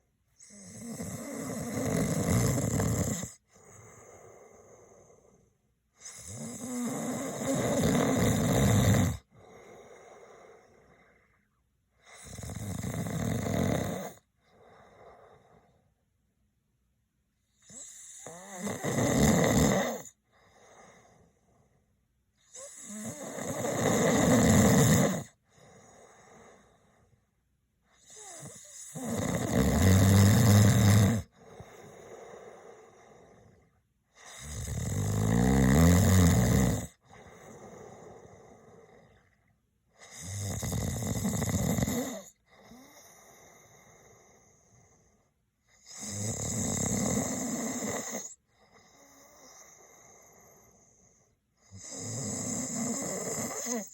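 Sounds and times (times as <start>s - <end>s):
quiet breaths: 0.0s - 53.9s
man snoring: 0.4s - 5.4s, 6.0s - 11.0s, 12.0s - 15.6s, 17.6s - 21.2s, 22.5s - 26.8s, 28.0s - 33.6s, 34.2s - 39.2s, 40.0s - 44.8s, 45.8s - 53.9s.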